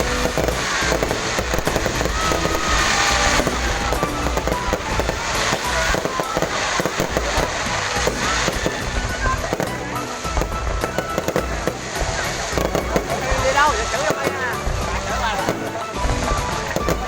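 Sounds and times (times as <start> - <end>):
firework whistles: 0.0 - 17.0
fireworks crackling and popping: 0.0 - 17.0
music: 0.0 - 17.0.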